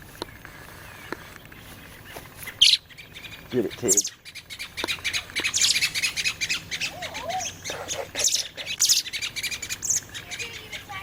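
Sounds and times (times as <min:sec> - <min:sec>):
birds alarm calling: 0:00.0 - 0:11.0.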